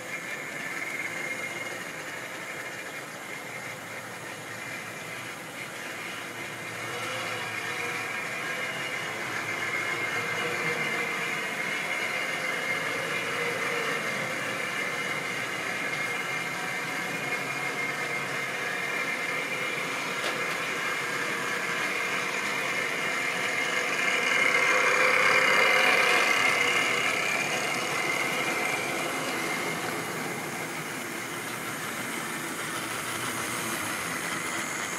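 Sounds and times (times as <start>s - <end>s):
model train motor whirring: 0.0s - 34.9s
wheels rumbling on track: 0.0s - 34.9s.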